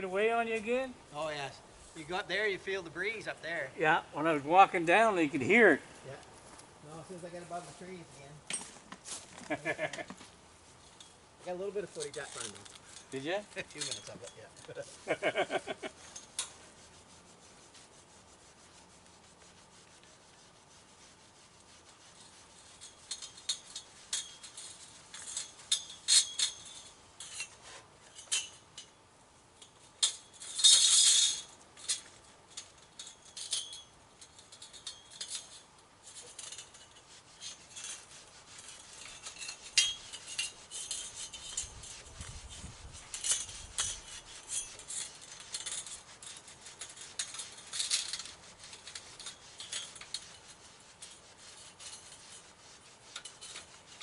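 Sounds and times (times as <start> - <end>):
rubbing and scraping: 0.0 - 54.0.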